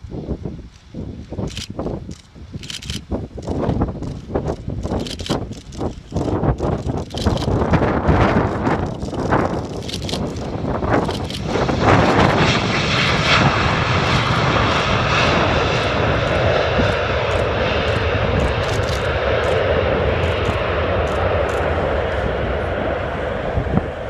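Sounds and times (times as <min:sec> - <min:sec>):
jet airliner engines roaring: 0:00.0 - 0:24.0.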